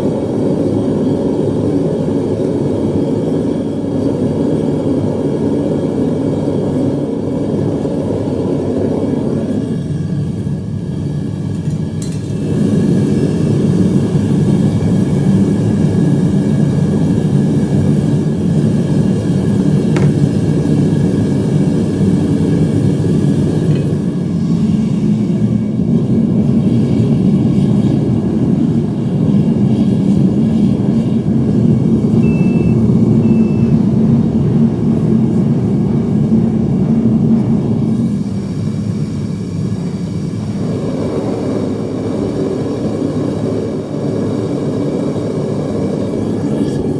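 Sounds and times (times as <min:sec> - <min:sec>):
furnace burner roaring: 0:00.0 - 0:46.9.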